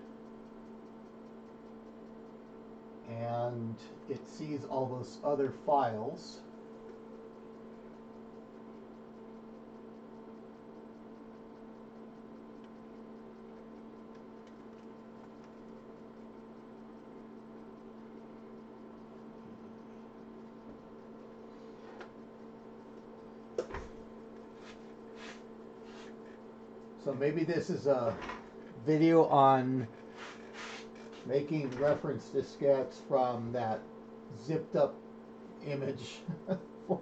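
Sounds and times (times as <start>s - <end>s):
faint electrical hum: 0.0s - 37.0s.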